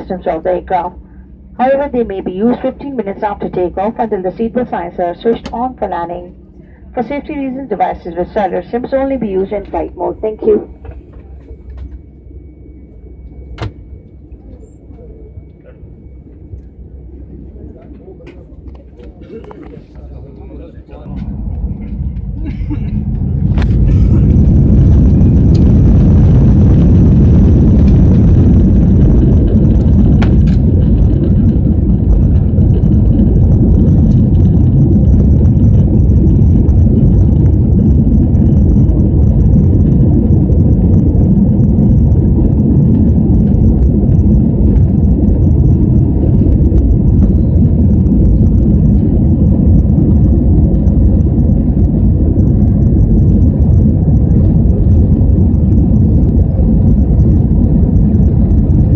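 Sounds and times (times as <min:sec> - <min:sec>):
jet engines roaring: 0:00.0 - 0:58.9.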